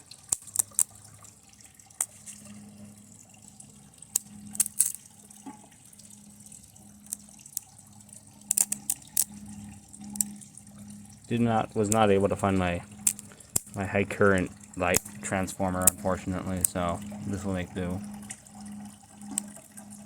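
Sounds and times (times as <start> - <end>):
faint low hum: 0.9 - 20.0.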